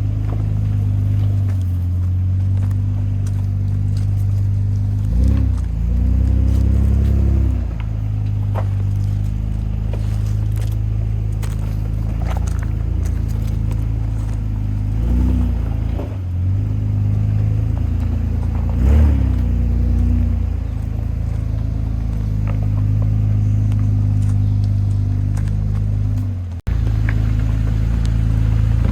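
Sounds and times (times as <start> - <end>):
engine exhaust drone: 0.0 - 28.9.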